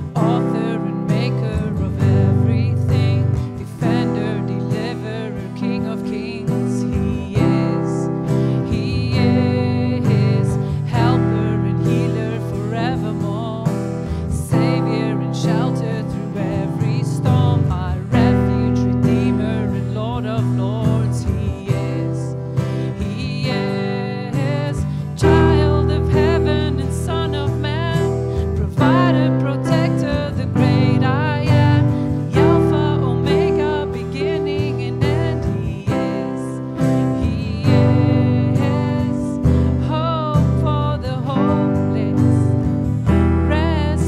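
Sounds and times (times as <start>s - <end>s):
keyboard chords: 0.0s - 44.0s
strummed acoustic guitars: 0.0s - 44.0s
woman singing: 0.0s - 44.0s.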